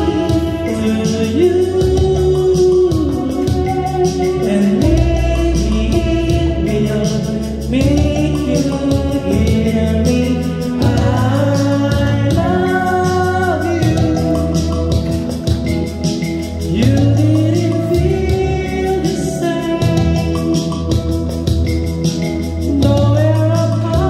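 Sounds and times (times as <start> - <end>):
man singing into microphone: 0.0 - 21.8, 22.5 - 24.0
recorded backing track: 0.0 - 24.0.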